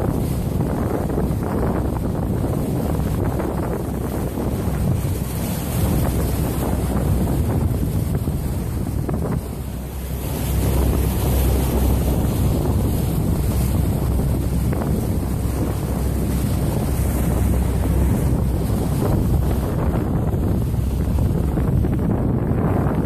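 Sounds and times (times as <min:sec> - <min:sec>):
water splashing at boat bow: 0:00.0 - 0:23.0
wind buffeting microphone: 0:00.0 - 0:23.0.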